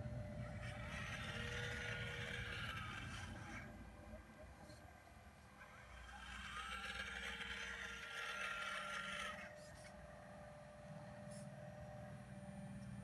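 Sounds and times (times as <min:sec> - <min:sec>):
hydraulic pump whining: 0:00.0 - 0:11.8.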